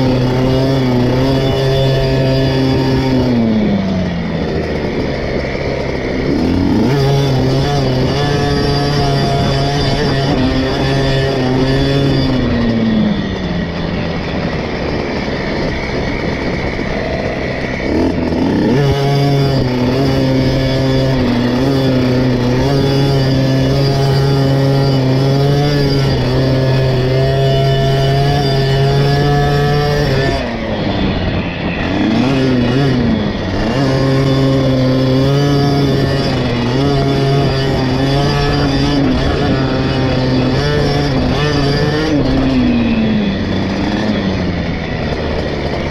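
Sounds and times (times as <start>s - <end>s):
two-stroke dirt bike engine revving: 0.0s - 45.9s.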